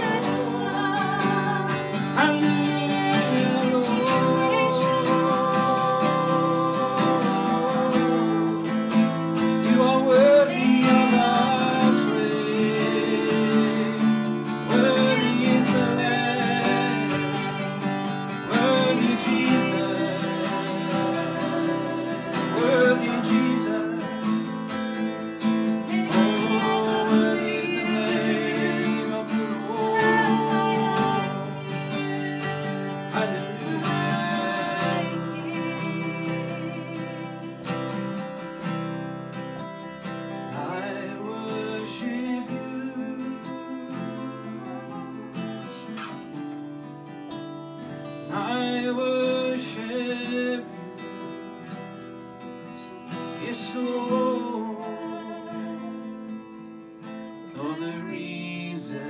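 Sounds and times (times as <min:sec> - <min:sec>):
man singing softly: 0:00.0 - 0:38.1, 0:40.4 - 0:46.3, 0:48.2 - 0:51.5, 0:52.6 - 0:56.8, 0:57.5 - 0:59.0
acoustic guitar strumming chords: 0:00.0 - 0:59.0.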